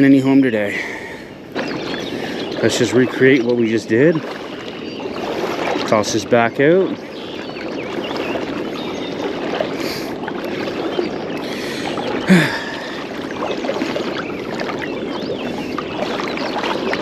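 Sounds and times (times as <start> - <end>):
river current rushing around legs: 0.0 - 17.0.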